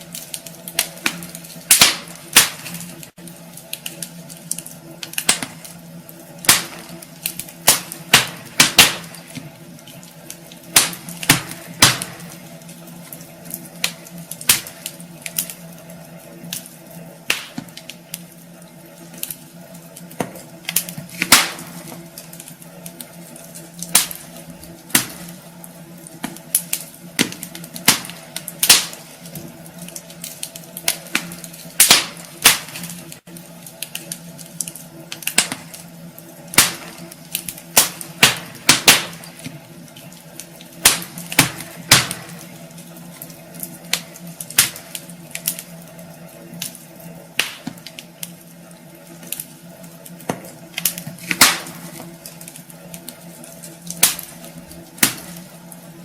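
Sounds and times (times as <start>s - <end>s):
steady low hum: 0.0s - 56.0s
wood fire crackling and popping: 0.0s - 56.0s.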